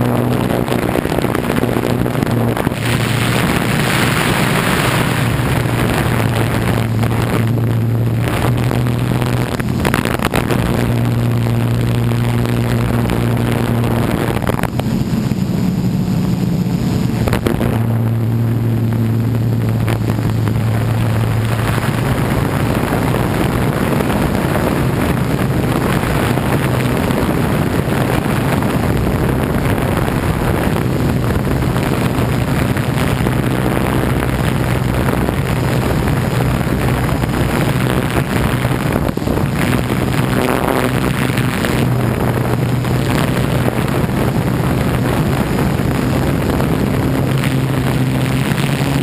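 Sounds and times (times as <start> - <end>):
drone motors humming: 0.0 - 49.0
wind noise on microphone: 0.0 - 49.0.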